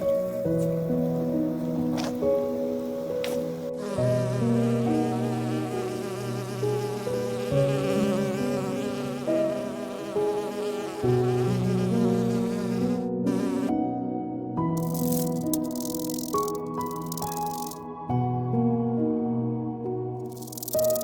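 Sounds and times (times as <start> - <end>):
calm instrumental music: 0.0 - 21.0.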